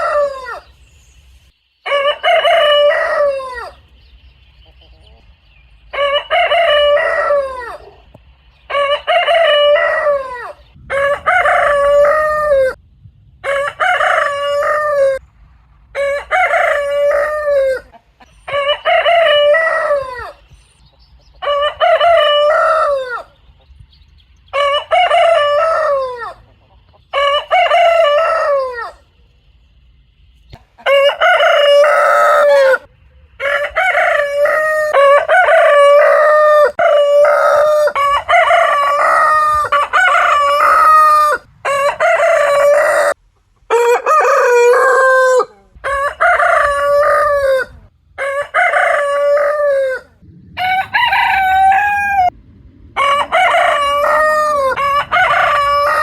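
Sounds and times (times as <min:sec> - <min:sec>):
rooster crowing: 0:00.0 - 0:00.8, 0:01.8 - 0:03.8, 0:05.9 - 0:08.1, 0:08.7 - 0:12.8, 0:13.4 - 0:15.2, 0:15.9 - 0:20.4, 0:21.4 - 0:23.4, 0:24.5 - 0:26.5, 0:27.1 - 0:29.1, 0:30.8 - 0:52.4, 0:53.0 - 0:56.0.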